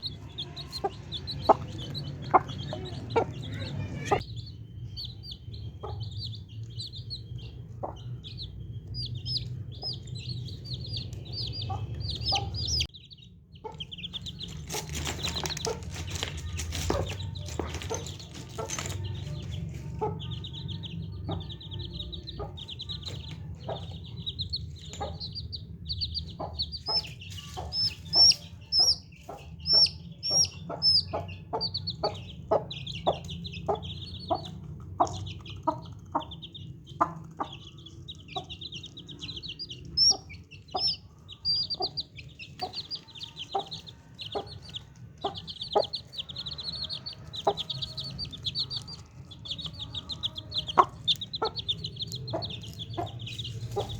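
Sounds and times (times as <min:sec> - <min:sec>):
baby chicks peeping: 0:00.0 - 0:53.9.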